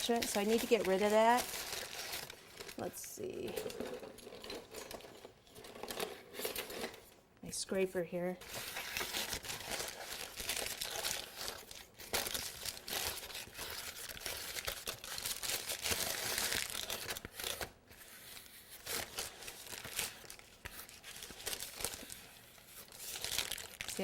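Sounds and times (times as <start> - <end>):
parchment paper crinkling: 0.0 - 7.0, 8.4 - 24.0.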